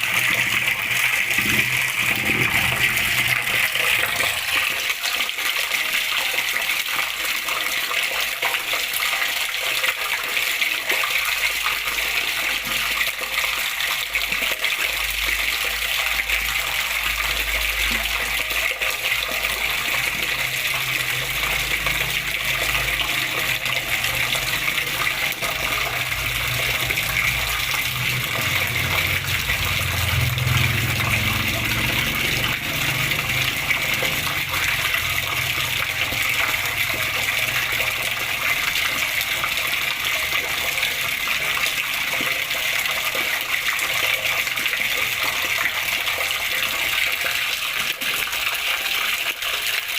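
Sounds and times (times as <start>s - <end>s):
water flowing and splashing: 0.0s - 49.9s.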